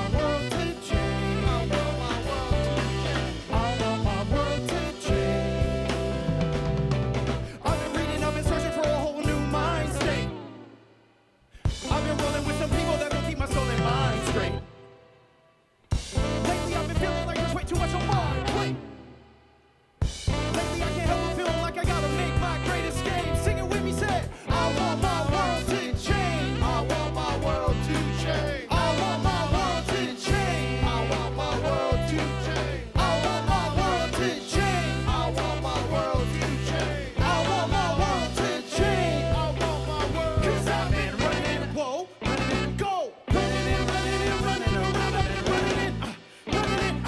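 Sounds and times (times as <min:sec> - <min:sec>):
live band playing upbeat song: 0:00.0 - 0:10.7, 0:11.6 - 0:14.9, 0:15.9 - 0:19.2, 0:20.0 - 0:47.0.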